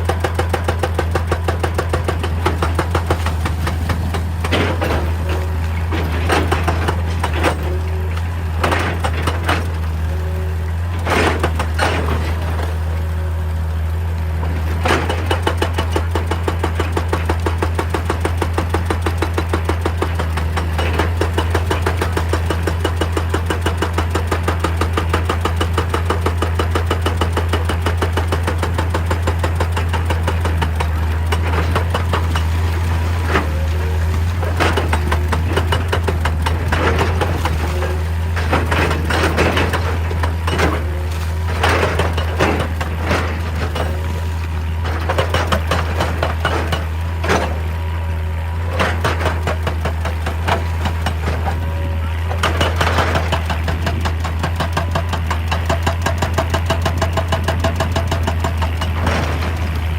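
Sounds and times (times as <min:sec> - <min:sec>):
excavator diesel engine running: 0:00.0 - 0:59.9
hydraulic rock breaker hammering: 0:00.0 - 0:59.9.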